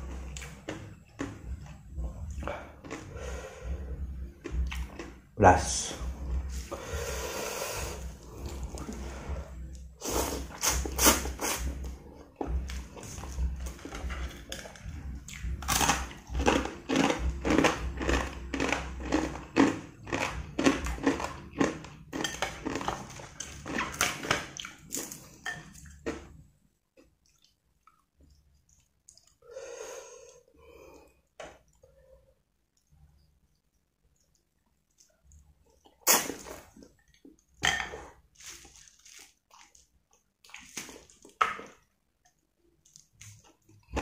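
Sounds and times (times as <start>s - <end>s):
wet chewing of noodles: 0.0s - 5.3s, 6.1s - 44.0s.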